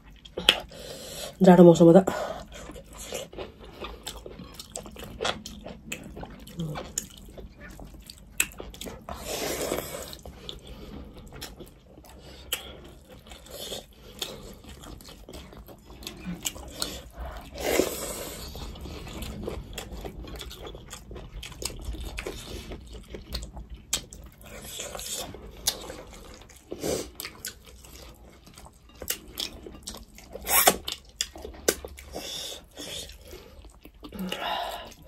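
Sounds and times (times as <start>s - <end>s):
people chewing with wet smacking: 0.0s - 1.4s, 2.1s - 35.0s.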